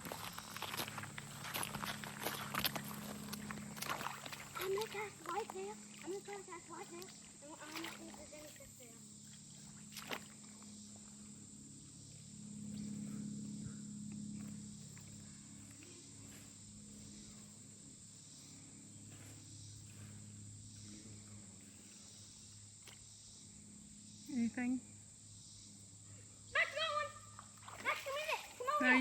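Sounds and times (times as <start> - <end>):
insects droning: 0.0 - 29.0
low hum: 0.0 - 29.0.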